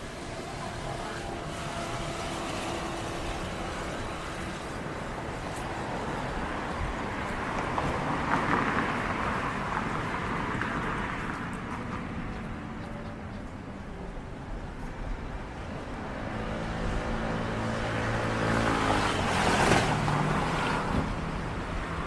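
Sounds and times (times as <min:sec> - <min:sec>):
traffic engines humming: 0:00.0 - 0:22.0.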